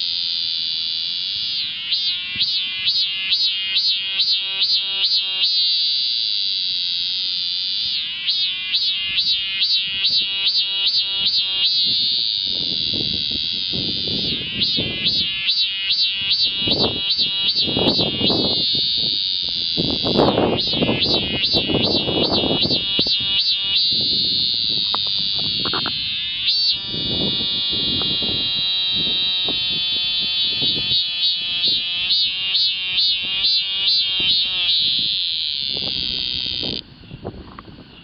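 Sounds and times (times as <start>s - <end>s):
cicada pulsing buzzing song: 0.0s - 38.0s.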